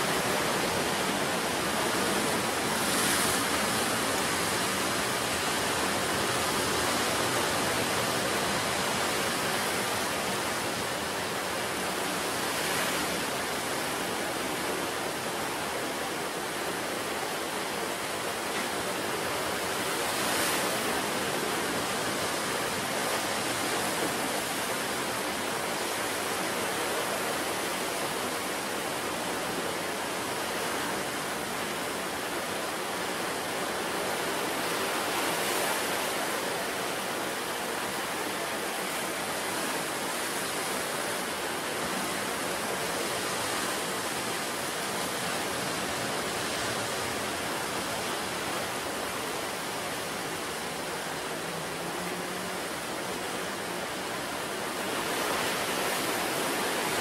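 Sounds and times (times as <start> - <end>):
waves breaking and washing: 0.0 - 57.0.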